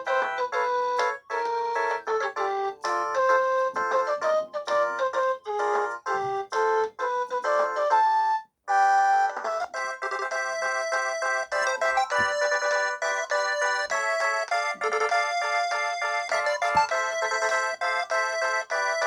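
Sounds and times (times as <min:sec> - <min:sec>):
synthesized phone ringtone tune: 0:00.1 - 0:19.0.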